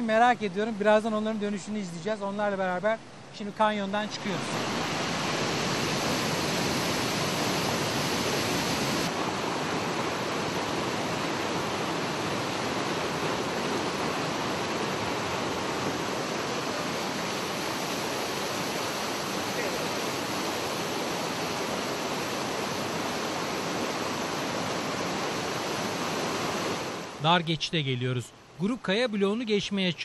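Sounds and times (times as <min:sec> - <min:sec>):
stream rushing over rocks: 0:00.6 - 0:27.2.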